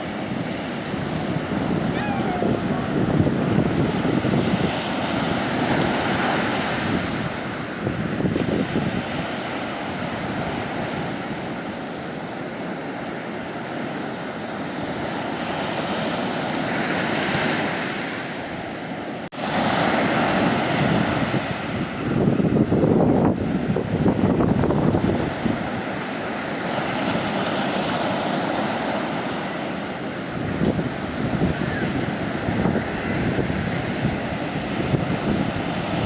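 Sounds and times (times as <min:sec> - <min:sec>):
sea waves washing onto shore: 0:00.0 - 0:36.0.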